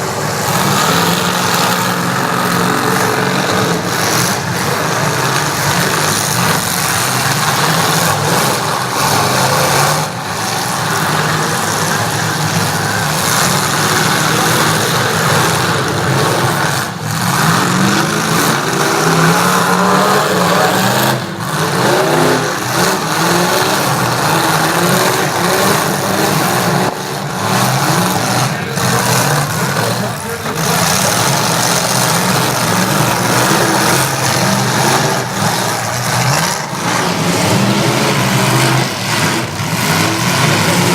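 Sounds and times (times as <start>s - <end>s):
truck engines revving: 0.0s - 40.9s.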